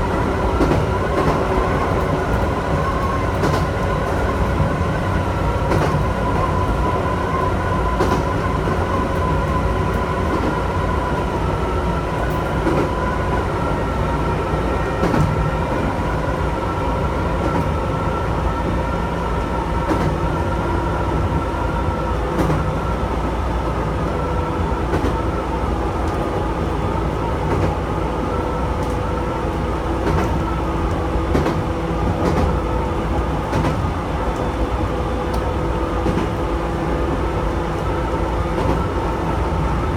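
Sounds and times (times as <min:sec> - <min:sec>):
electric train running: 0:00.0 - 0:39.9.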